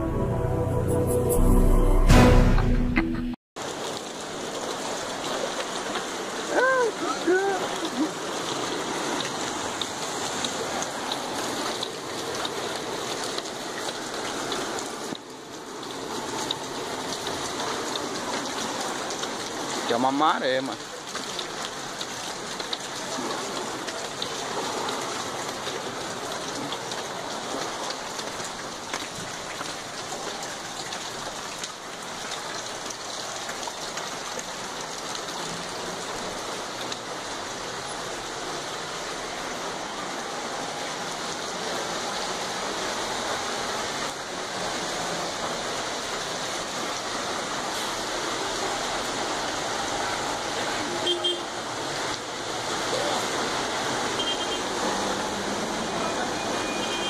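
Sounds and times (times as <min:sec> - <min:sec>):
floodwater running across street: 0:03.6 - 0:57.0
rain rushing: 0:03.6 - 0:57.0.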